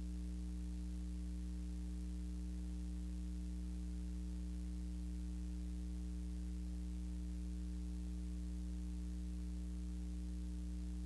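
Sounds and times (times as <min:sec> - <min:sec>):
electrical hum: 0:00.0 - 0:11.0
low background hiss: 0:00.0 - 0:11.0.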